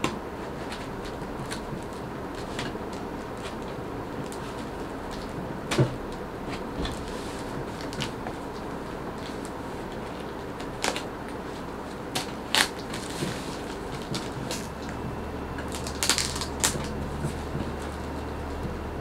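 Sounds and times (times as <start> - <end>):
plastic and paper packaging crinkling: 0.4 - 5.4, 6.1 - 18.6.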